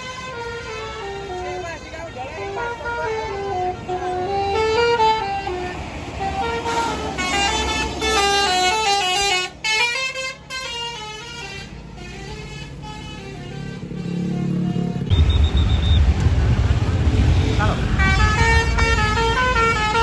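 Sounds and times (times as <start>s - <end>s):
bus horn playing a tune: 0.0s - 15.1s, 17.9s - 20.0s
bus engine rumble: 0.0s - 20.0s.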